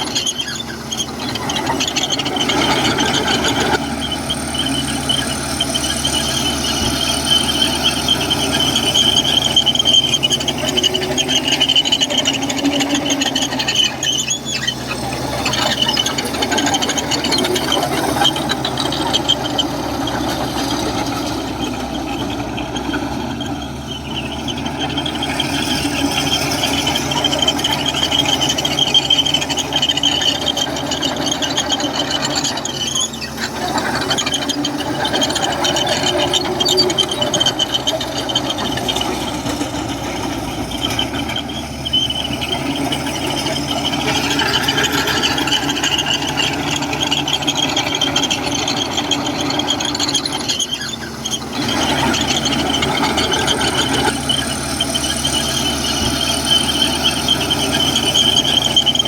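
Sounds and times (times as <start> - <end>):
bulldozer engine under load: 0.0 - 59.0
high-pitched squeal: 0.0 - 59.0.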